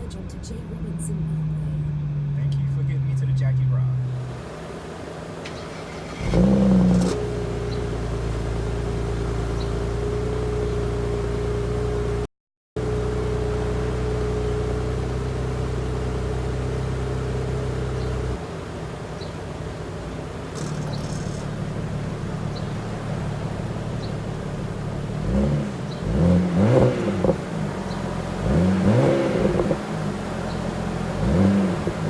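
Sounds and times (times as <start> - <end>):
car exhaust drone: 0.0 - 32.0.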